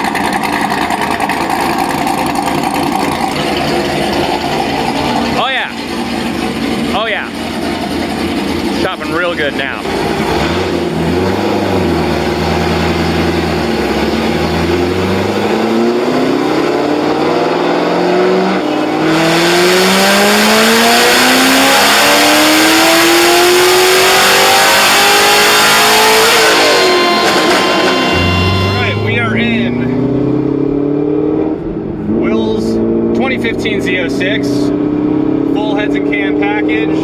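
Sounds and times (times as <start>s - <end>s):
car engine revving on dyno: 0.0s - 37.0s.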